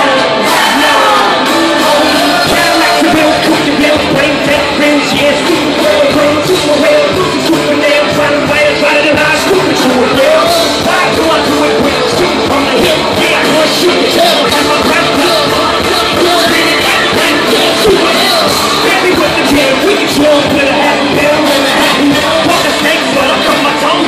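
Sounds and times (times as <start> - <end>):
live band music: 0.0 - 24.0
person singing: 0.0 - 24.0.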